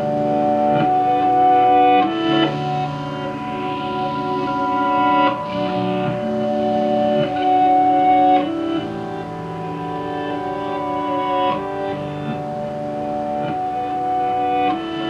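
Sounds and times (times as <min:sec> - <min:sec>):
looped ambient electric guitar: 0:00.0 - 0:15.0
plucked guitar notes: 0:00.0 - 0:15.0.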